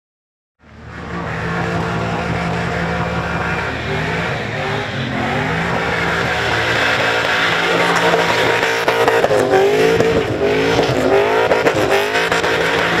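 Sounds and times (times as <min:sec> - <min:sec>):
car engine revving hard: 0:00.7 - 0:13.0.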